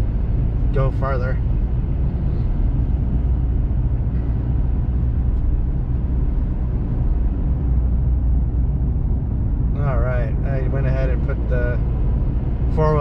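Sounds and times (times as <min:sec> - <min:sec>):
diesel engine drone in cab: 0:00.0 - 0:13.0.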